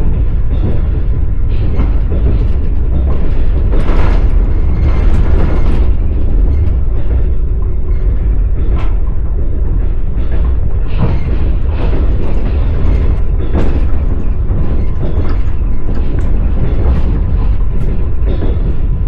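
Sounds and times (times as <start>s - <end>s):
train wheels rumbling on rails: 0.0s - 19.0s
wheels clacking over rail joints: 0.0s - 19.0s.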